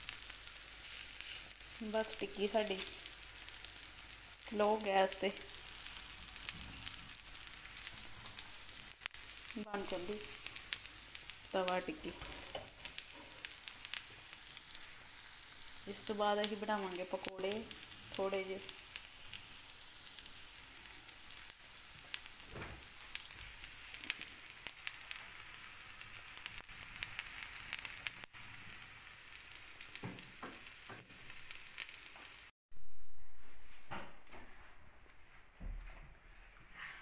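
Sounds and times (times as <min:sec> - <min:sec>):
food sizzling in oil: 0:00.0 - 0:32.6.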